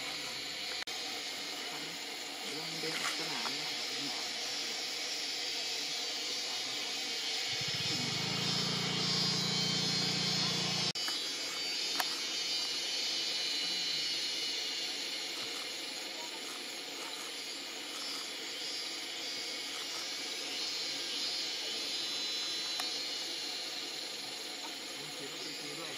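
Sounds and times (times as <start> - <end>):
insect chorus: 0.0 - 25.9.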